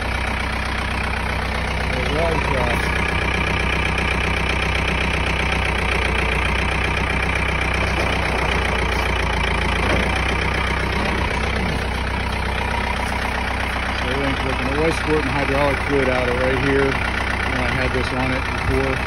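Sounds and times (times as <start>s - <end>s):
diesel tractor engine idling: 0.0s - 19.0s.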